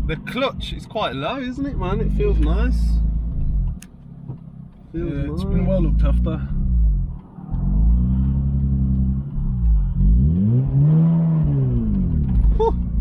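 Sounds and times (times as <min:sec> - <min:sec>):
rotary car engine revving: 0:00.0 - 0:13.0.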